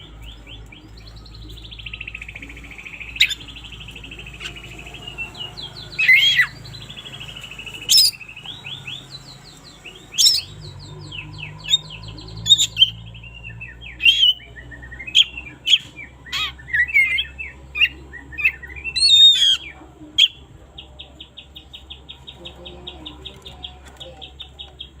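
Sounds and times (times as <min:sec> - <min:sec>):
bird singing whistled notes: 0:00.0 - 0:20.4.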